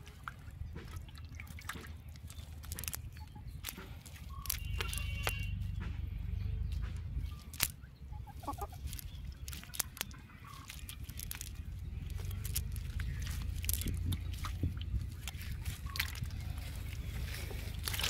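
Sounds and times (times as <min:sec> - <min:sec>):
wet net rustling and clicking: 0:00.0 - 0:05.9, 0:06.7 - 0:18.0
steady low rumble: 0:00.2 - 0:18.0.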